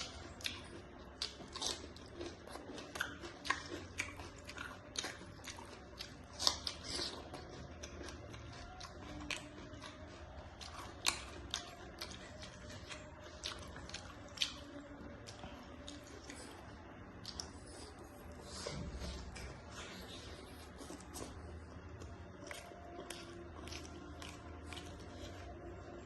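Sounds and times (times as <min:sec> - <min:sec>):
person chewing with mouth clicks: 0:00.0 - 0:25.7.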